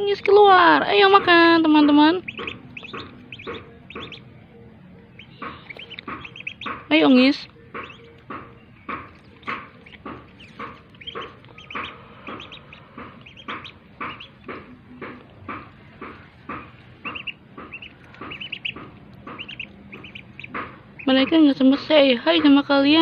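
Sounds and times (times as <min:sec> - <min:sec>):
ducklings peeping: 0:00.0 - 0:23.0.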